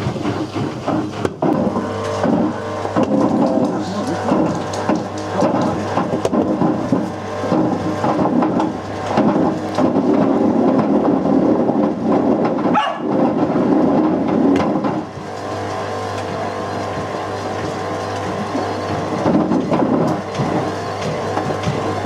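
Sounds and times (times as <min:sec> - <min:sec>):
brick tumbling in drum: 0:00.0 - 0:22.0
washing machine motor hum: 0:00.0 - 0:22.0.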